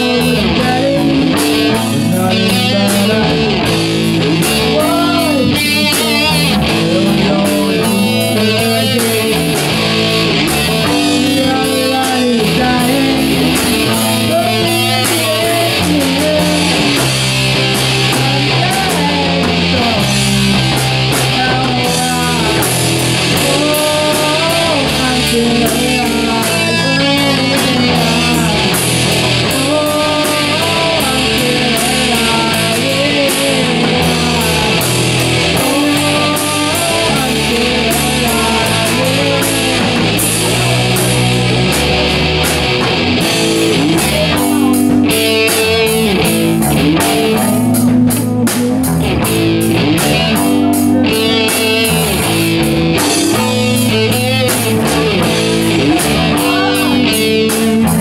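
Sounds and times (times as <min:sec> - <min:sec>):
bass guitar: 0:00.0 - 0:58.0
distorted electric guitar: 0:00.0 - 0:58.0
drum kit with cymbals: 0:00.0 - 0:58.0
man singing: 0:00.0 - 0:58.0.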